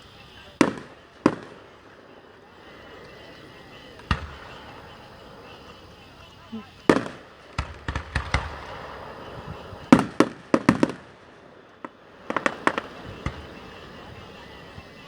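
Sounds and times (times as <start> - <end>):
fireworks banging: 0.0 - 15.0.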